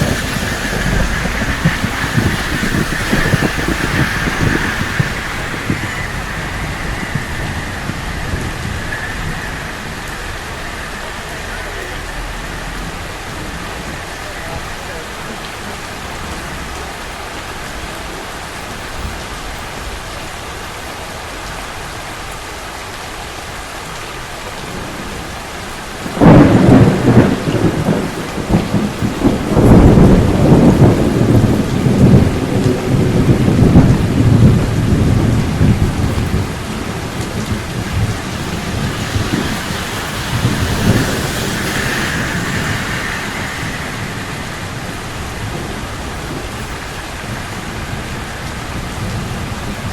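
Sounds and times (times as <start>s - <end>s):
thunderclap rumbling: 0.0s - 18.5s, 24.6s - 49.9s
steady rain falling: 0.0s - 49.9s.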